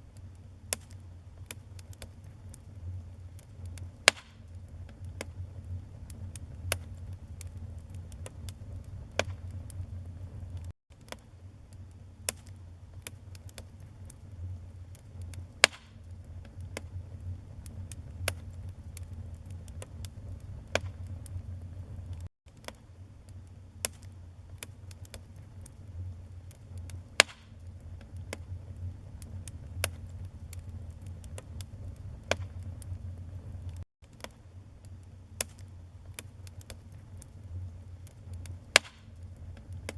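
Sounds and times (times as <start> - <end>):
fire low rumble: 0.0 - 10.8, 11.4 - 22.3, 23.0 - 33.8, 34.5 - 39.9
wood fire crackling and popping: 0.1 - 39.9.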